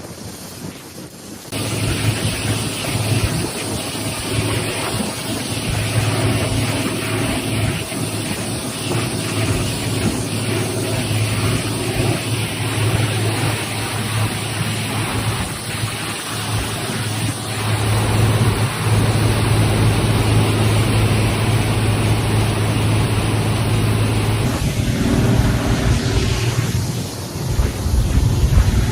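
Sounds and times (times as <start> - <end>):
rushing water spray: 0.0 - 28.9
wind noise: 0.0 - 28.9
boat engine drone: 1.0 - 28.9.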